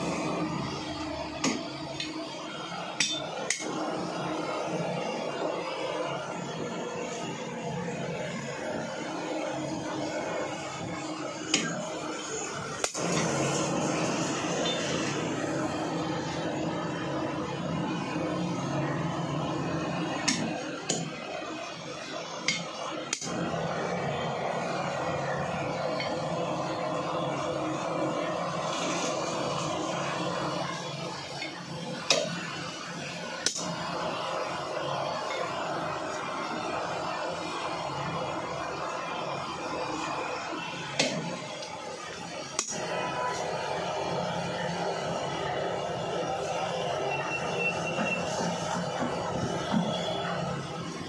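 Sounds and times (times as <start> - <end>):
steady background noise: 0.0 - 51.0.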